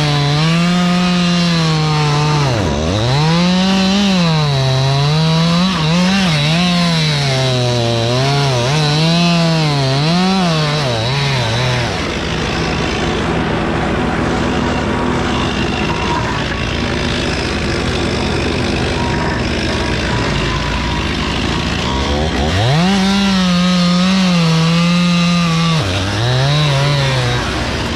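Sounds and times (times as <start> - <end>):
chainsaw cutting wood: 0.0 - 27.9
steady engine hum: 0.0 - 27.9.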